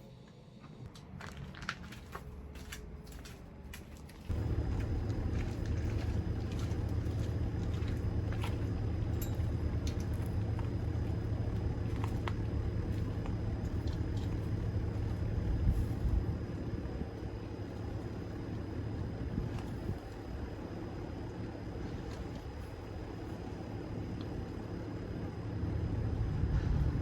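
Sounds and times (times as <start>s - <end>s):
car engine and road rumble: 0.8s - 27.0s.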